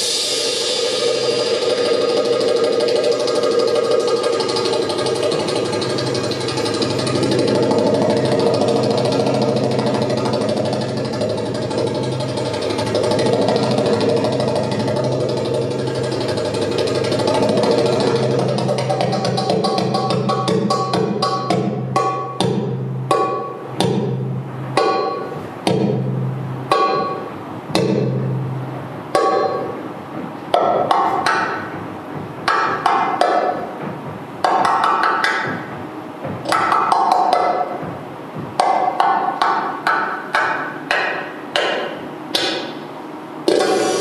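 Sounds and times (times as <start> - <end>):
goblet drum strikes: 0.2 - 28.5, 29.1 - 42.7, 43.5 - 44.0.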